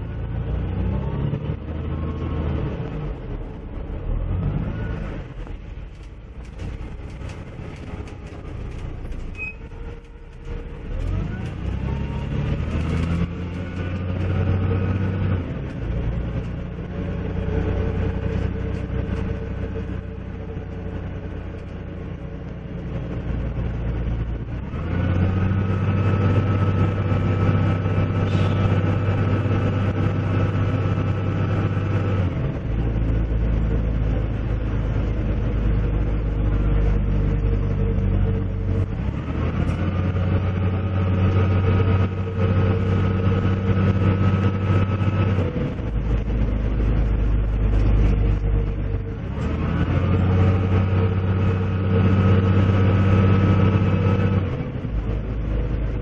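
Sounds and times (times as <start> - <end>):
bus engine whining: 0.0 - 56.0.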